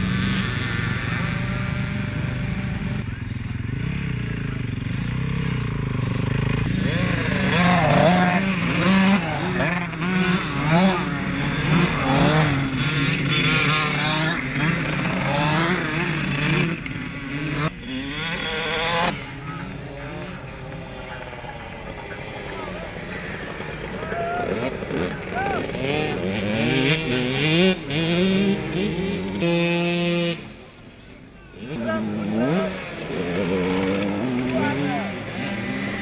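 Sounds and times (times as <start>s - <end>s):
motocross engines revving: 0.0s - 36.0s.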